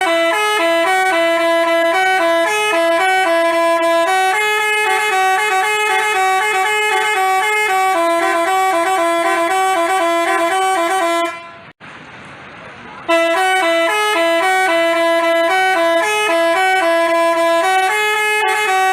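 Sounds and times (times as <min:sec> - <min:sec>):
musical air horns tune: 0:00.0 - 0:11.8, 0:13.1 - 0:18.9.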